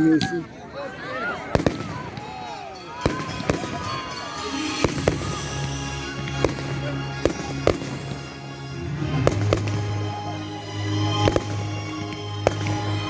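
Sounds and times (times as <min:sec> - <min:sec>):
fireworks bangs: 0:01.5 - 0:08.4, 0:09.0 - 0:13.0
music: 0:01.5 - 0:13.0.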